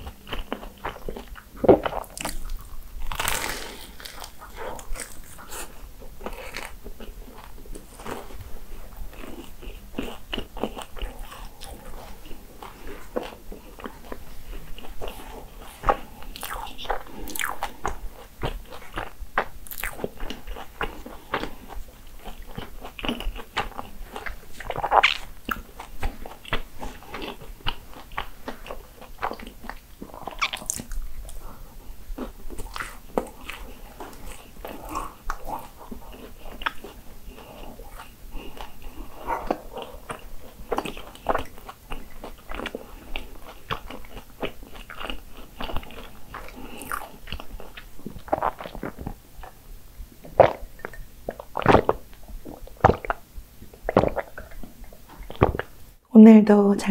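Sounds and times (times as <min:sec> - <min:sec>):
crunchy chewing: 0:00.0 - 0:49.6, 0:50.2 - 0:55.8.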